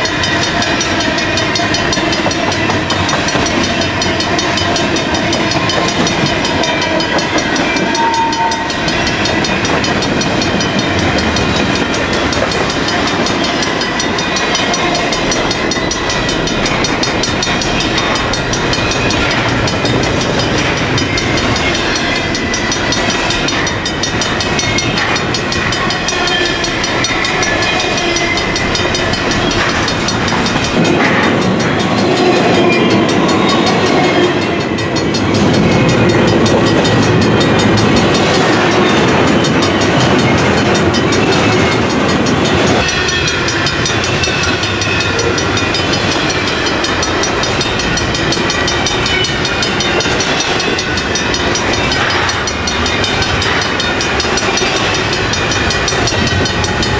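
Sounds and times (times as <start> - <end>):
train wheels rumbling on rail: 0.0 - 56.9
wheels clicking over rail joints: 0.0 - 56.9
high wheel squeals: 0.1 - 56.9.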